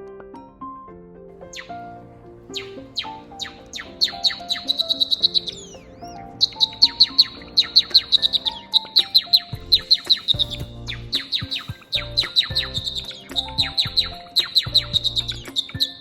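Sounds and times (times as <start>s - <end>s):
sparrow singing: 1.4s - 16.0s.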